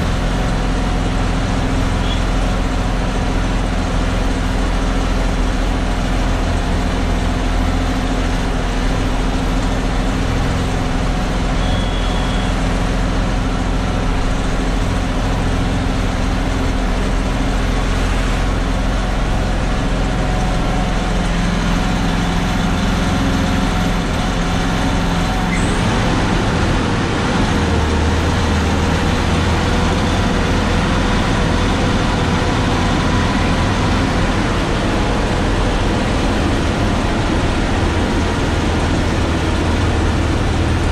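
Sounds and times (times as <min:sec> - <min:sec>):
truck diesel engine under load: 0:00.0 - 0:40.9.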